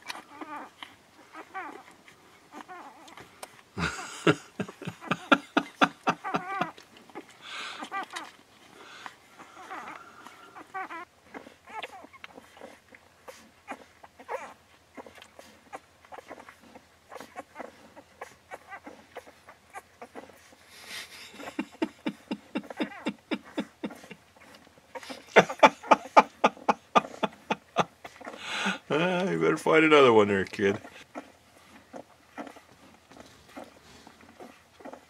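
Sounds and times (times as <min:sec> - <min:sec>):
puppies squeaking and grunting: 0:00.0 - 0:35.0.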